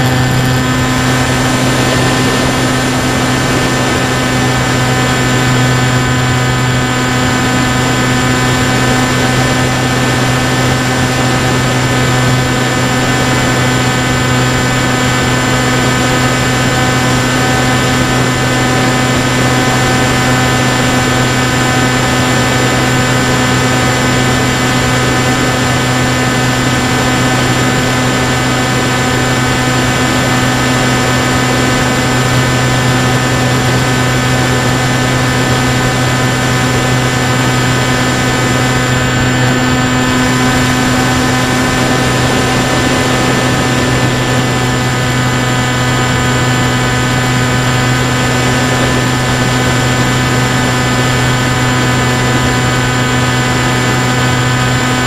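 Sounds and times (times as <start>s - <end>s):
electric motor and propeller droning: 0.0s - 55.0s.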